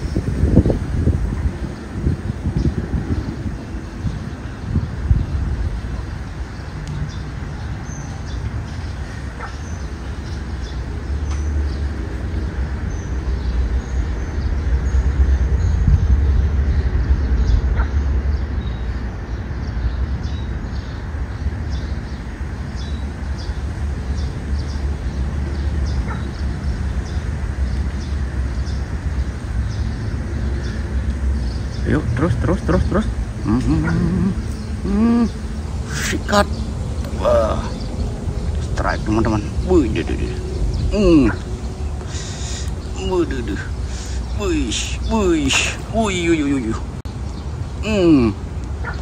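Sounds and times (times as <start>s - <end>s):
small birds chirping: 0.0s - 49.0s
wind buffeting microphone: 0.0s - 49.0s.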